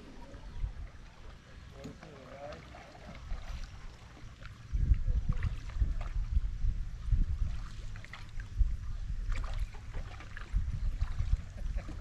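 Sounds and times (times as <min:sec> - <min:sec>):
low uneven rumble: 0:00.0 - 0:12.0
paddles splashing in water: 0:00.0 - 0:12.0.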